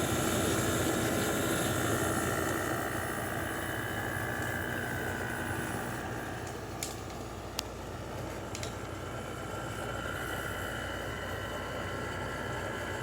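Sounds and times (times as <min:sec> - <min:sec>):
air conditioner hum: 0:00.0 - 0:13.0.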